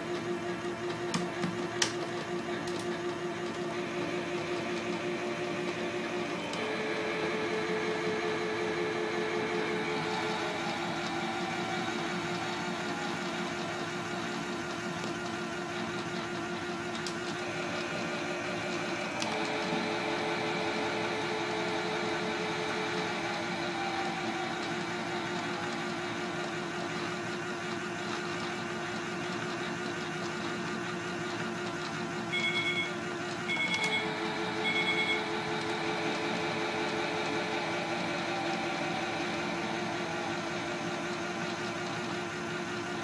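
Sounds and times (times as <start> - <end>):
toy washing machine motor whirring: 0.0 - 43.0.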